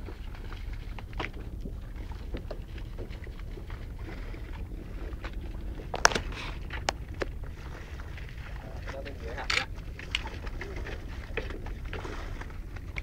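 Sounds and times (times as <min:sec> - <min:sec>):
boat engine rumble: 0:00.0 - 0:13.0
wind buffeting microphone: 0:00.0 - 0:13.0.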